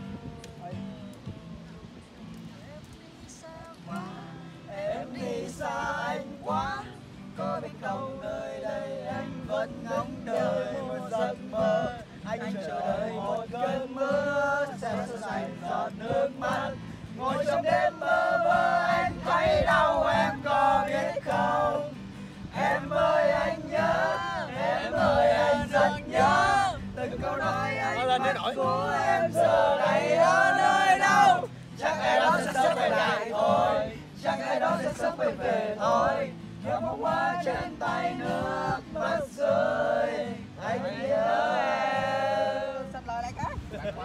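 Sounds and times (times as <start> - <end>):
acoustic guitar strumming: 0.0 - 43.0
men singing together: 3.4 - 43.0.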